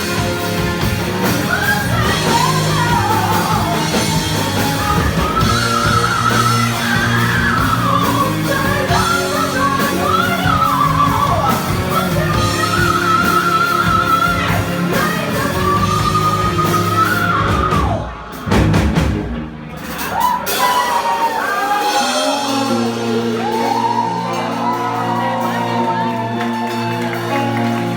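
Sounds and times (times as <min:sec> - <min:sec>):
rock song with singer: 0:00.0 - 0:27.9.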